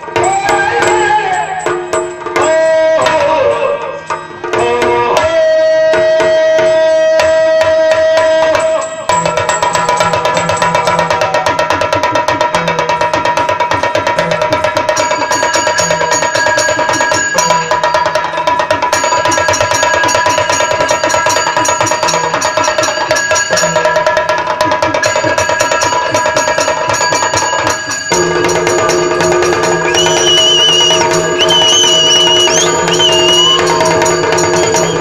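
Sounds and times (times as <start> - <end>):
drums beaten rapidly: 0.0 - 35.0.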